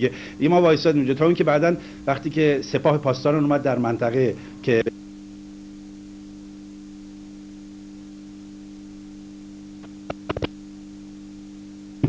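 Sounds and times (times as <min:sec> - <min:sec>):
electrical hum with whine and hiss: 0:00.0 - 0:12.0.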